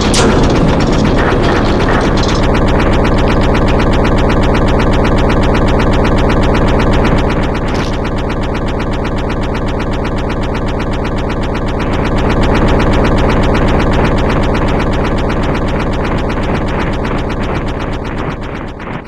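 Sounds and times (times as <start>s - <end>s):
machinery chugging rapidly: 0.0s - 19.0s.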